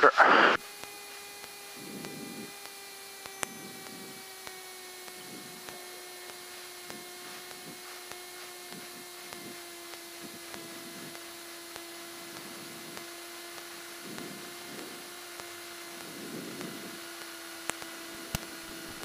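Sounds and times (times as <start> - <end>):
aircraft engine idling: 0.6 - 19.0
light irregular clicks: 0.8 - 19.0.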